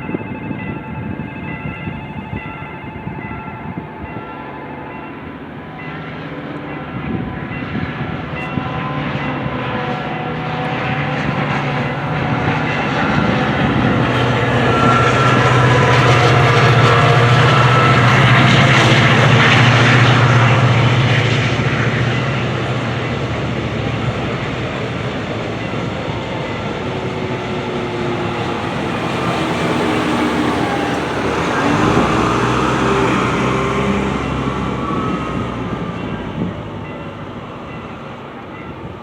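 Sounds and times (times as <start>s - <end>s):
crossing warning bell ringing: 0.0s - 39.0s
diesel locomotive engine drone: 0.0s - 39.0s.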